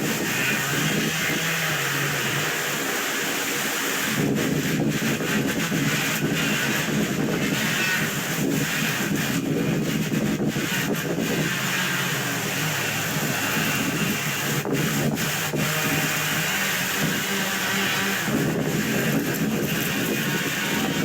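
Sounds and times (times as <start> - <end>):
wind rumbling on microphone: 0.0 - 2.8, 3.9 - 21.0
distant saw cutting wood: 0.0 - 21.0
motor hum: 4.0 - 21.0.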